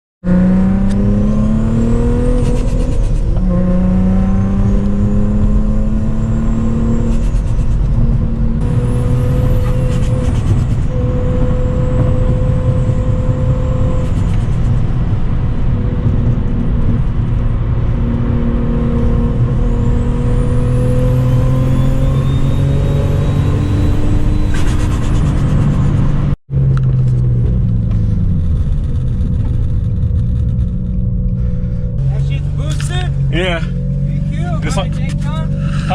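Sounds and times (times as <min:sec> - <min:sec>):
car engine shifting gears: 0:00.2 - 0:35.9.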